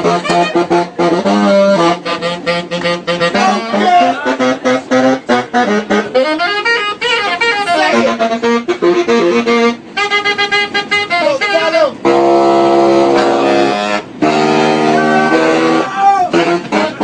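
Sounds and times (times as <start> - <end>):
saxophone playing fast jazz: 0.0 - 17.0.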